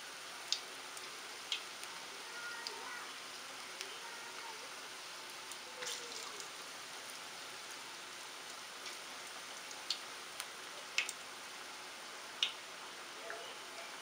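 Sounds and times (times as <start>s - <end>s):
deep-frying sizzle in oil: 0.0s - 14.0s.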